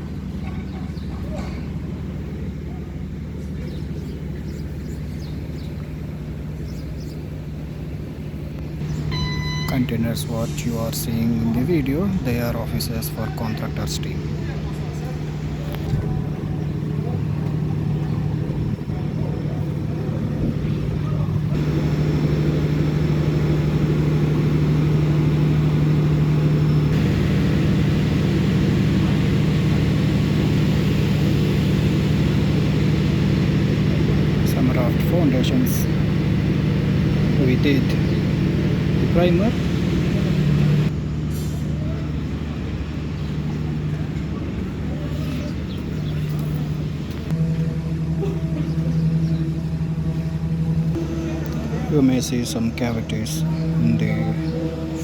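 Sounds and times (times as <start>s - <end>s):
low engine drone: 0.0s - 55.0s.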